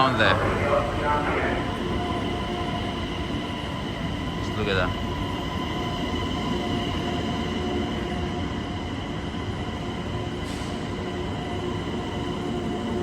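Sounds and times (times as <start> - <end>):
constant whine: 0.0 - 13.0
train rumble: 0.0 - 13.0.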